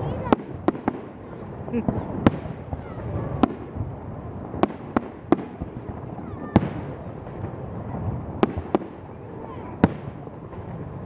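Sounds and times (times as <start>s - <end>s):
fireworks rumble: 0.0s - 11.0s.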